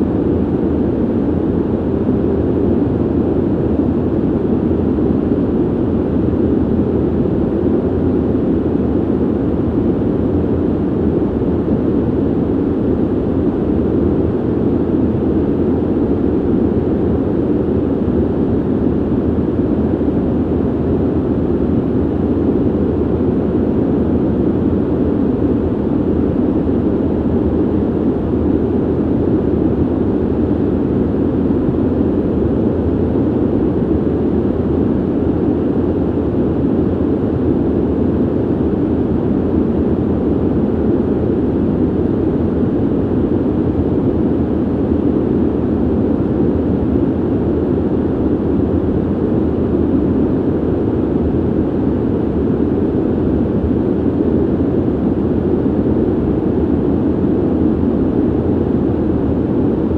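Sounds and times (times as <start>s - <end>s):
ventilation air rushing: 0.0s - 59.9s.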